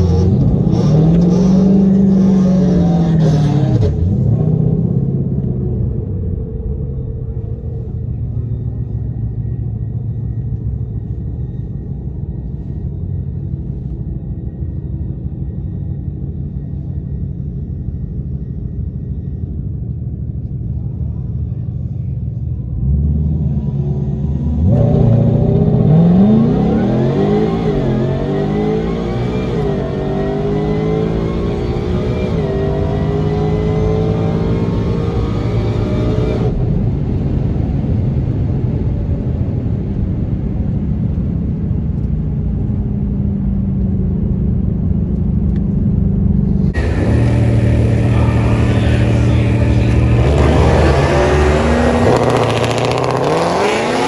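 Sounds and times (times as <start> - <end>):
car engine rumbling and revving: 0.0 - 54.0.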